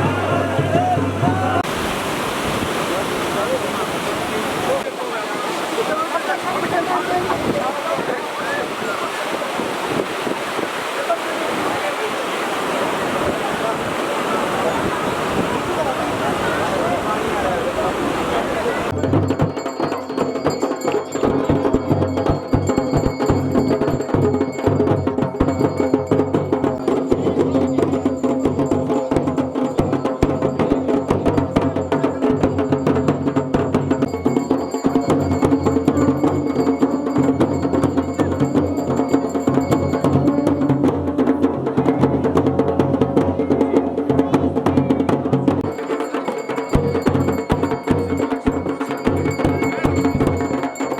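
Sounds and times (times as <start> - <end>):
dhol and damau drums beating: 0.0 - 50.9.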